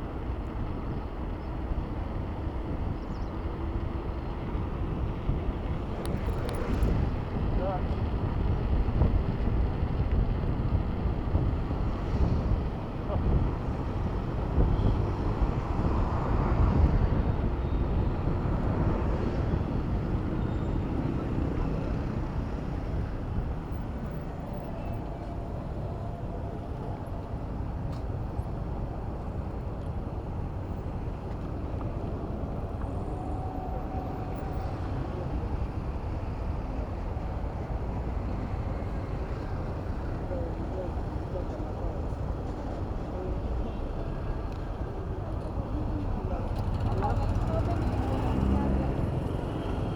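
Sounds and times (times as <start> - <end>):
road traffic rumble: 0.0 - 49.9
wind: 0.0 - 49.9.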